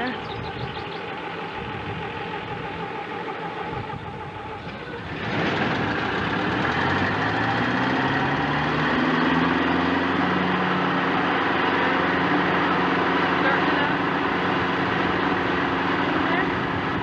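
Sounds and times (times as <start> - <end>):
combine engine revving: 0.0 - 17.0.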